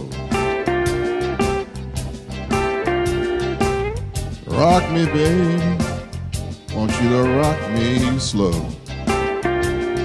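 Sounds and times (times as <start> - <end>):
backing track with steady beat: 0.0 - 10.0
electric blues guitar lead: 0.0 - 10.0.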